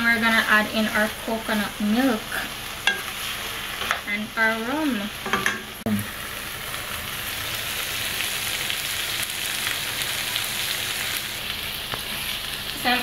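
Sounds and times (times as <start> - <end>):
lobster sizzling in butter: 0.0 - 13.0.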